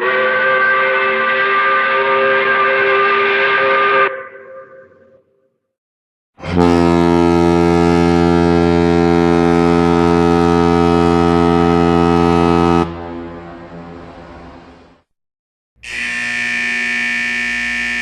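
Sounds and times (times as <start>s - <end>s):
long low horn blast: 0.0s - 5.0s, 6.4s - 14.8s, 15.9s - 18.0s.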